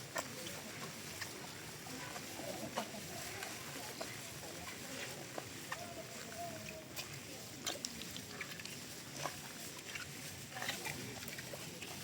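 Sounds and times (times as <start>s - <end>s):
raindrops tapping and dripping: 0.0s - 12.0s.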